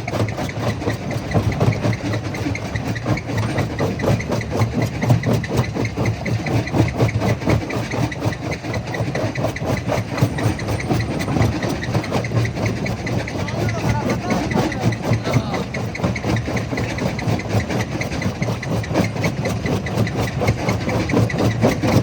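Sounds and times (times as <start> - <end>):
jaw crusher running: 0.0 - 22.0.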